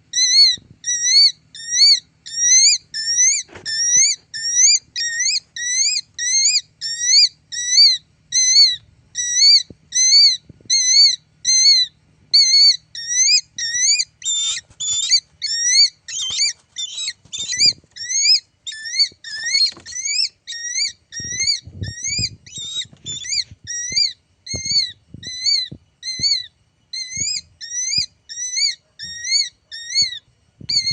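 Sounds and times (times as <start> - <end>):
bird calling: 0.0 - 30.9.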